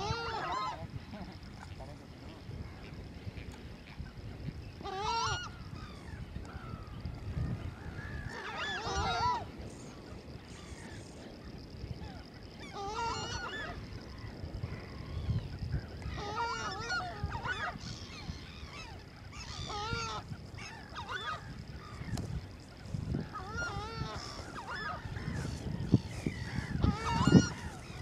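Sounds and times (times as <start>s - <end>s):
waterbirds calling: 0.0s - 28.0s.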